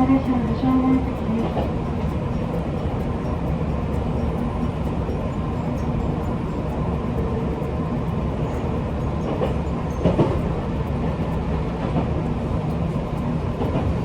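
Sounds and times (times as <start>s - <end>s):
train clunk: 0.0s - 14.0s
train wheels rumbling on rails: 0.0s - 14.0s.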